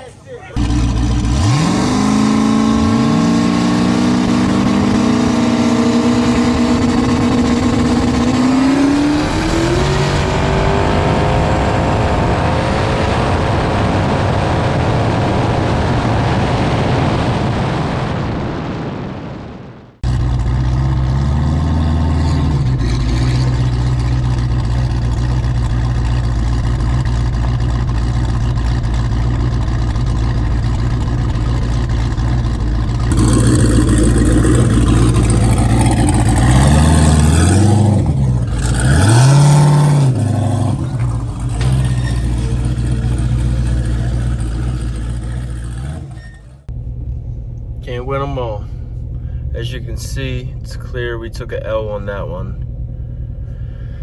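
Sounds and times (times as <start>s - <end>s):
car engines revving: 0.0s - 18.7s, 20.0s - 54.0s
low engine drone: 0.0s - 54.0s.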